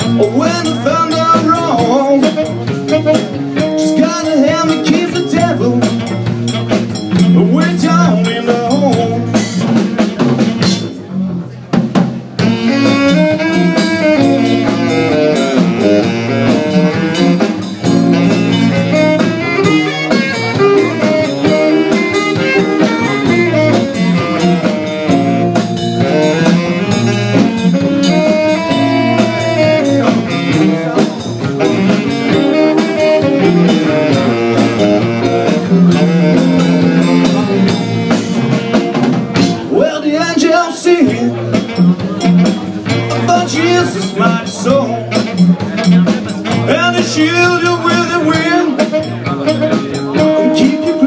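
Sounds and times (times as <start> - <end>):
drum kit: 0.0 - 51.0
electric bass: 0.0 - 51.0
electric guitar lead line: 0.0 - 51.0.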